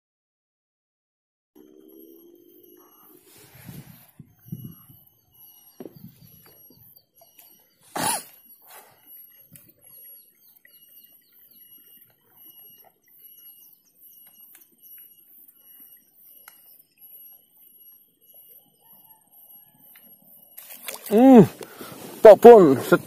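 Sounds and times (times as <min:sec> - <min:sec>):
bird chirps: 0:01.6 - 0:23.0
high-pitched whine: 0:01.6 - 0:23.0.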